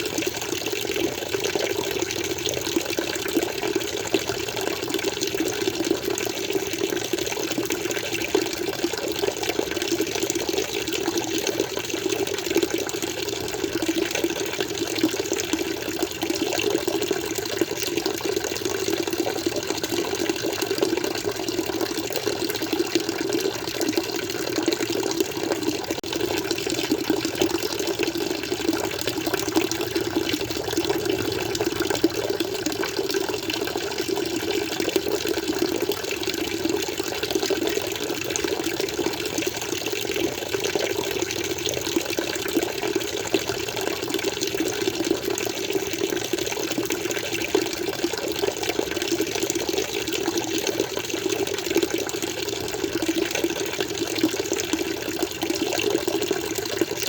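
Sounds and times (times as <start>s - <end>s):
water flowing and splashing: 0.0s - 57.0s.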